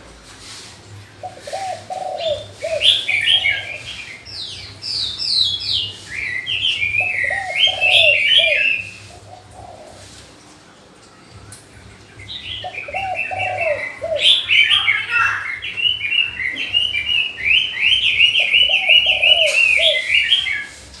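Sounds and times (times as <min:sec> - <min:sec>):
bird cooing: 0:00.0 - 0:21.0
birds chirping: 0:00.0 - 0:21.0.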